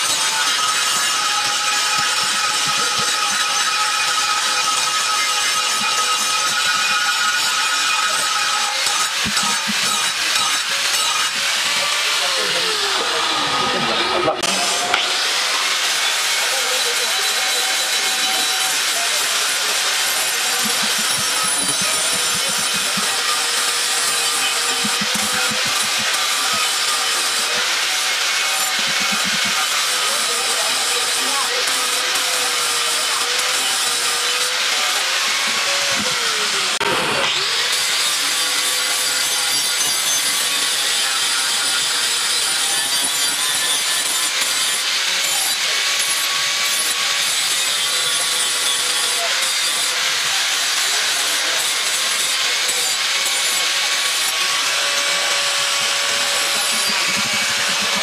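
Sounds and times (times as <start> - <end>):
angle grinder grinding steel: 0.0 - 58.0.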